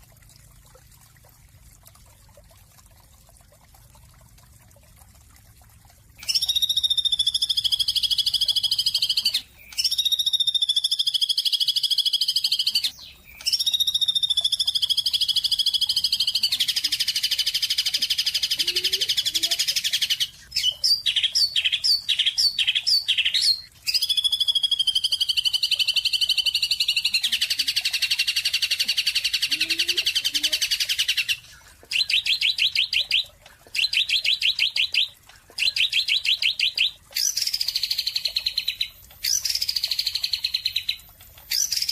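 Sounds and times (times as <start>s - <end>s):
bird calling and trilling: 6.2s - 41.9s.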